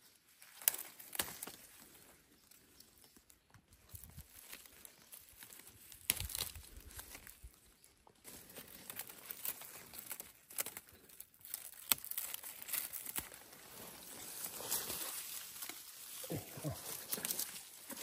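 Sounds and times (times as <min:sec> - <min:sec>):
leafy stems rustling: 0:00.0 - 0:18.0
stems snapping: 0:00.4 - 0:01.8, 0:02.8 - 0:07.5, 0:08.3 - 0:18.0.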